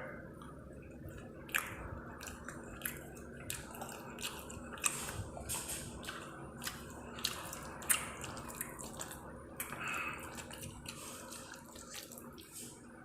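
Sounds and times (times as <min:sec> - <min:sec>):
wet chewing and mouth sounds: 0:00.3 - 0:13.0
lip smacking: 0:00.4 - 0:12.8.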